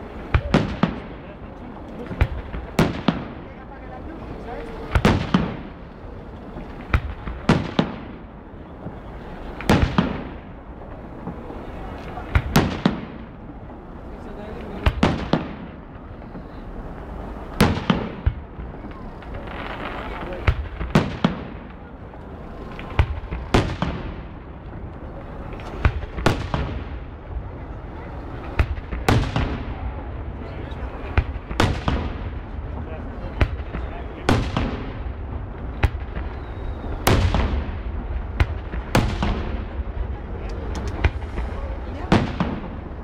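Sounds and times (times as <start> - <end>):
fireworks loud sharp bangs: 0.0 - 43.0
low crackle and rumble: 0.0 - 43.0.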